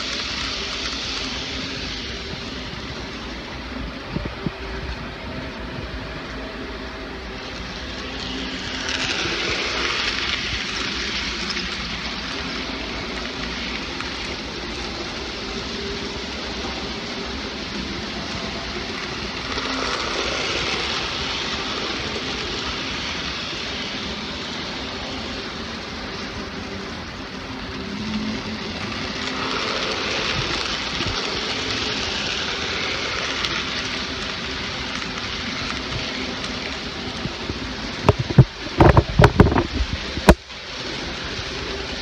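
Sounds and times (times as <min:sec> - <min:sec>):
model trains whirring on track: 0:00.0 - 0:42.0.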